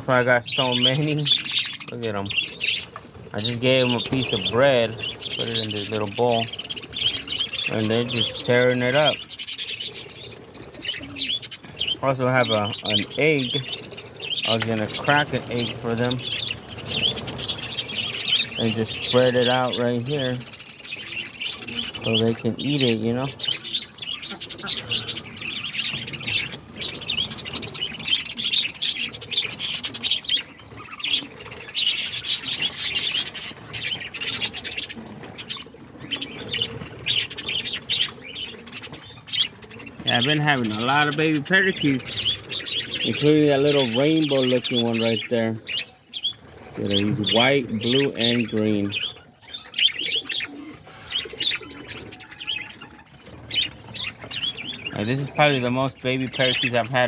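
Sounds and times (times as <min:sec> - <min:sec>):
parakeets chattering: 0:00.0 - 0:57.0.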